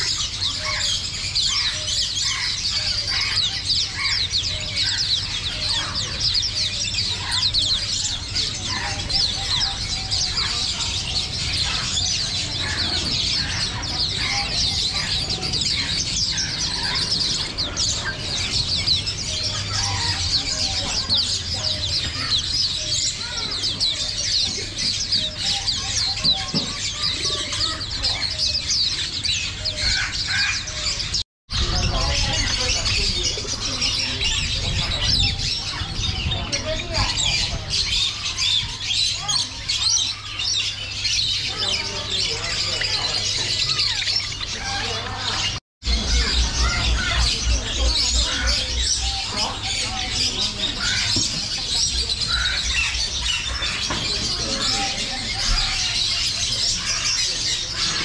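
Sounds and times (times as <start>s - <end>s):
low bird calls: 0.0s - 58.0s
songbirds chirping and twittering: 0.0s - 58.0s.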